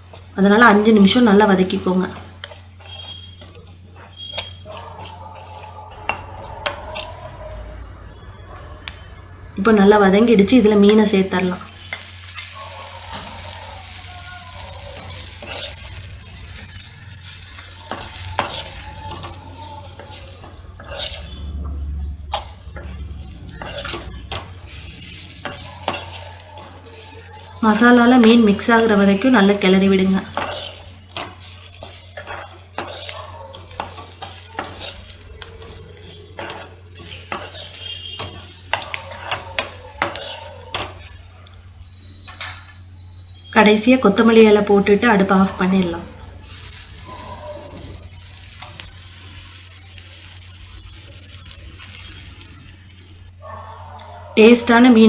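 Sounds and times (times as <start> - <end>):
fish frying in a pan: 0.0 - 7.6, 11.6 - 42.9, 46.1 - 53.4
faint sizzle: 0.0 - 55.0.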